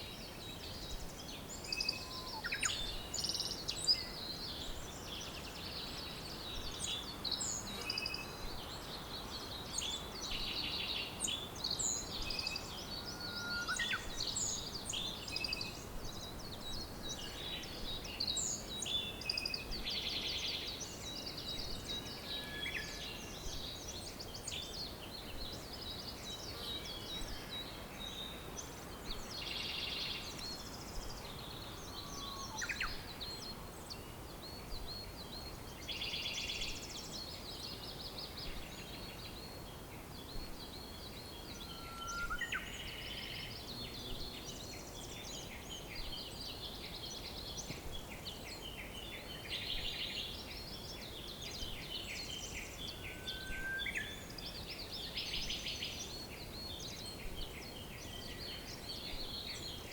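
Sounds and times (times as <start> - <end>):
birds singing and calling: 0.0 - 59.9
steady background hiss: 0.0 - 59.9.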